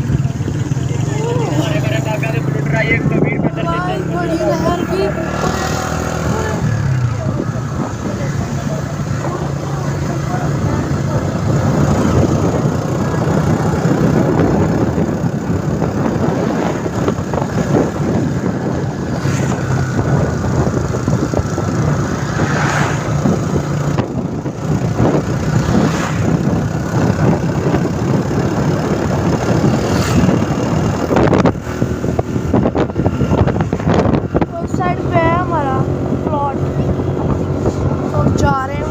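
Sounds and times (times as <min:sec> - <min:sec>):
motorcycle engine running: 0:00.0 - 0:38.9
road noise: 0:00.0 - 0:38.9
wind rushing: 0:00.0 - 0:38.9.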